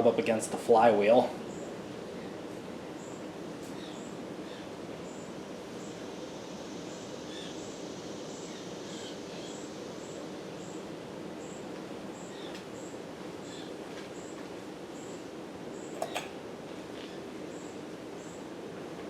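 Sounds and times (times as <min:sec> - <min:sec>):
ceiling fan whirring: 0:00.0 - 0:19.0.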